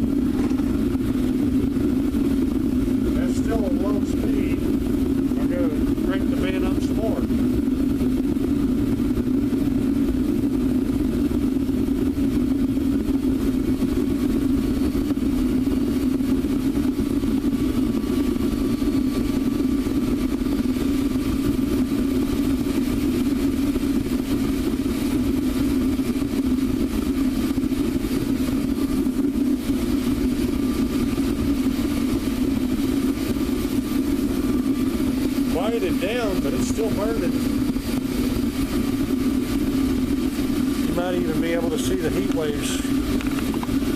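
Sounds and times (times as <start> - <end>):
burner rushing: 0.0 - 14.6, 19.3 - 43.9.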